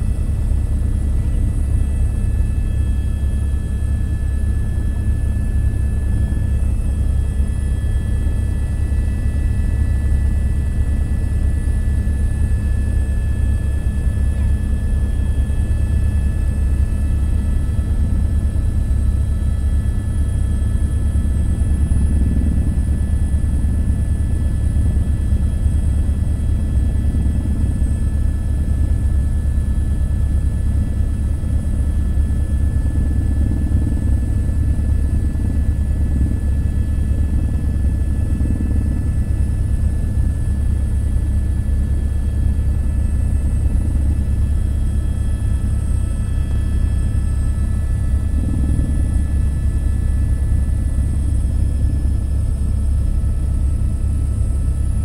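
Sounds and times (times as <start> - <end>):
helicopter drone: 0.0 - 55.0.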